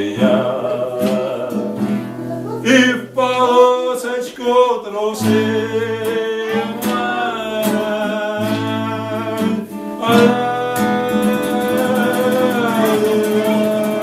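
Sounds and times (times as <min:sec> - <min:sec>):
acoustic guitar playing: 0:00.0 - 0:14.0
person singing without words: 0:00.0 - 0:14.0.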